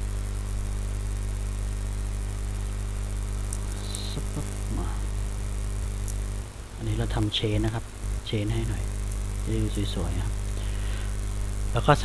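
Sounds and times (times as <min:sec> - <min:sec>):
electrical mains hum and buzz: 0:00.0 - 0:12.0.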